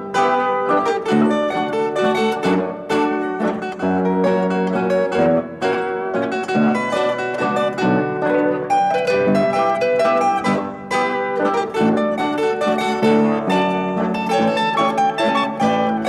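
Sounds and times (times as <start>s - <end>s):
plucked-string instrumental music: 0.0s - 16.0s.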